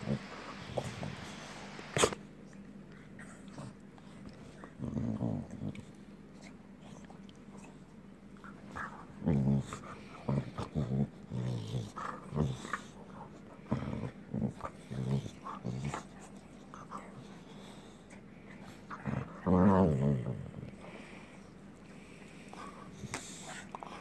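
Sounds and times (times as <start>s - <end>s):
dogs play-growling: 0.0s - 24.0s.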